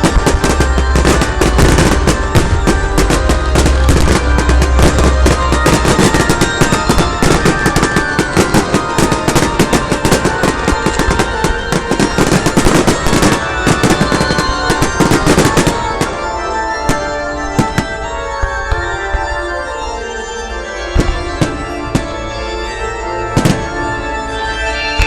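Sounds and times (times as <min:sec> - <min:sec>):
fireworks bangs and crackles: 0:00.0 - 0:20.0, 0:20.8 - 0:25.0
music playing: 0:00.0 - 0:25.0.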